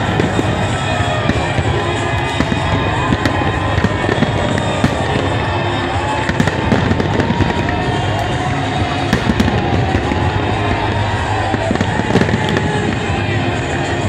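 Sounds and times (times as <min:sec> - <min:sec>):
fireworks bangs and crackling: 0:00.0 - 0:14.0
whistling fireworks gliding in pitch: 0:00.0 - 0:14.0.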